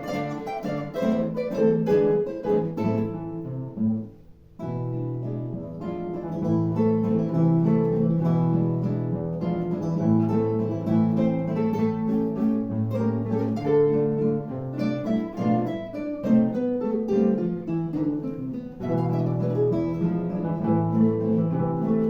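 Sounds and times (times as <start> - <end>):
acoustic guitar melody: 0.0 - 22.0.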